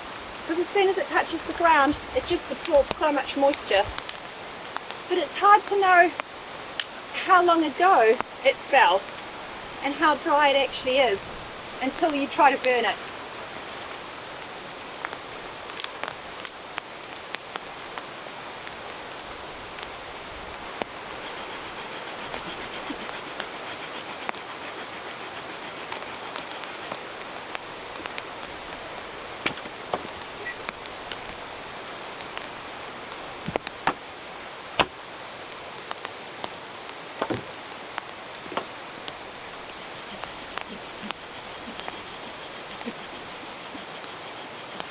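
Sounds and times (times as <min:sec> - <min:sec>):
raindrops ticking close by: 0:00.0 - 0:22.4, 0:23.1 - 0:44.9
steady rain falling: 0:00.0 - 0:44.9.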